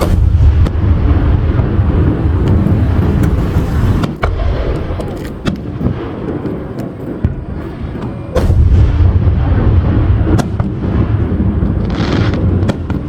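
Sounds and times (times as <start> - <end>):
deep rumble of firework bursts: 0.0 - 13.0
sharp firework cracks and pops: 0.0 - 13.0.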